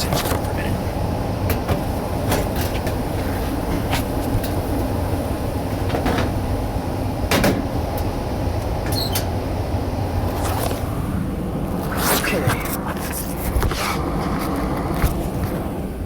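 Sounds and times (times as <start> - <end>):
gas furnace humming: 0.0 - 16.0.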